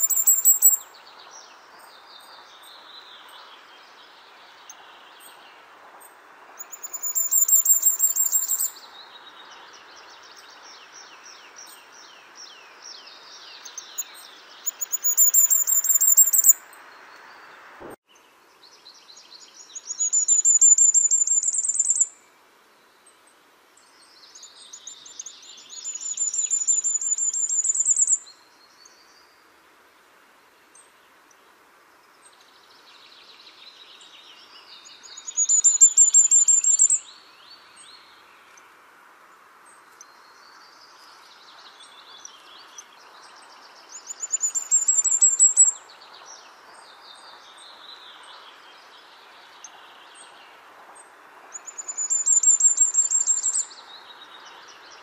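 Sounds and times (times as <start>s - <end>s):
faint steady hiss: 0.0s - 55.0s
songbird singing: 0.0s - 55.0s.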